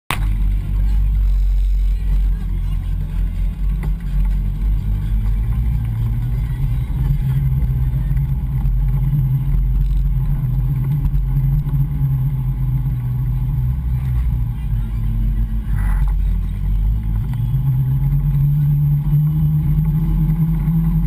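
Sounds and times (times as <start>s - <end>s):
road vibration rumble: 0.1s - 21.0s.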